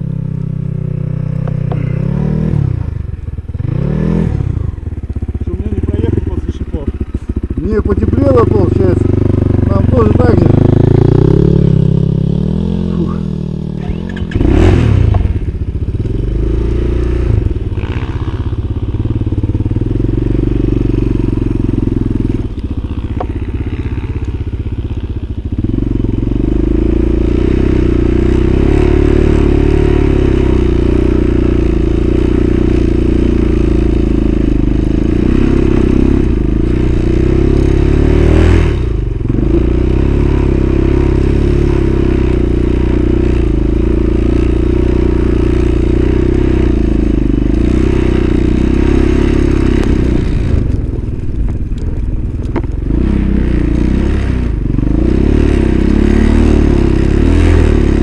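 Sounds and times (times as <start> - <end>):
vehicle engine at high revs: 0.0 - 58.0.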